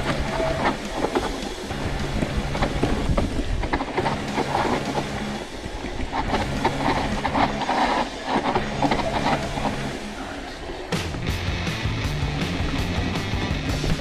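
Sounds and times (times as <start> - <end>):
mountain bike rattling downhill: 0.0 - 11.2.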